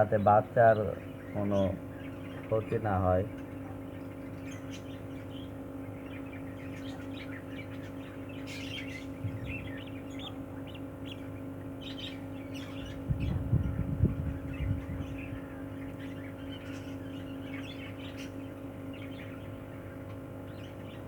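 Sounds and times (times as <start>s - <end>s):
budgerigars chirping: 0.0s - 21.0s
steady electrical hum: 0.0s - 21.0s.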